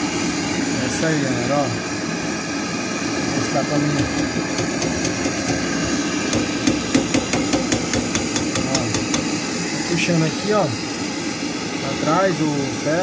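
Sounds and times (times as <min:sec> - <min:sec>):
torch flame roaring: 0:00.0 - 0:13.0.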